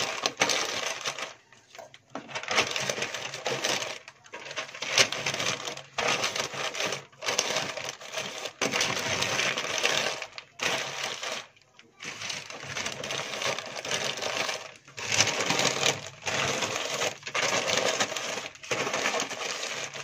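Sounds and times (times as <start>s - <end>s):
newspaper rustling and crinkling: 0.0s - 20.0s.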